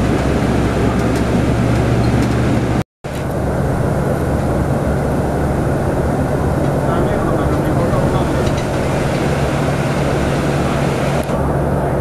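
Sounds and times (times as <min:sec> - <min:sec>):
jet engine noise: 0:00.0 - 0:12.0
low engine hum: 0:00.0 - 0:12.0.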